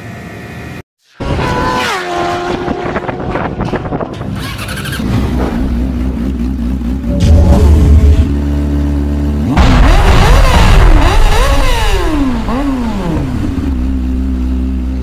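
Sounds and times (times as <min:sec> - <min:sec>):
vehicle engine rumbling: 0:01.2 - 0:15.0.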